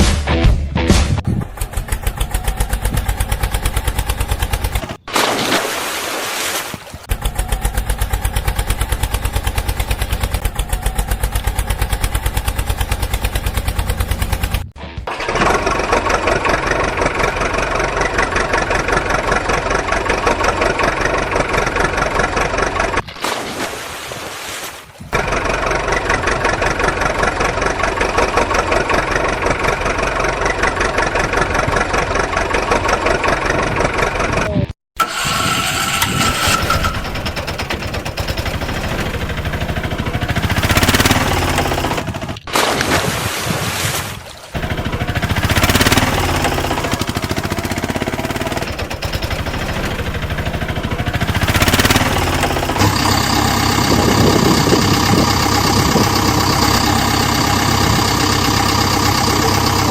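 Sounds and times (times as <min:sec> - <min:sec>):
tractor engine chugging: 0:01.2 - 0:05.1, 0:07.0 - 0:23.0, 0:25.2 - 0:42.5, 0:44.6 - 0:59.9.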